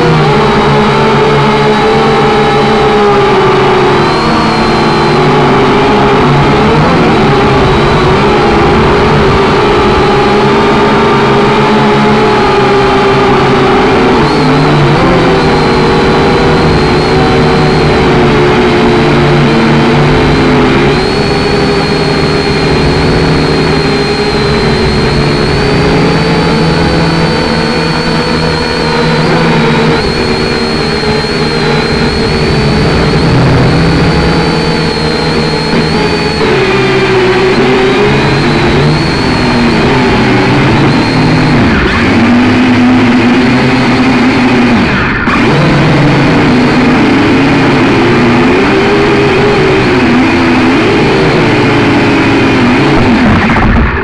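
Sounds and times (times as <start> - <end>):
drone motors whirring: 0.0 - 54.0.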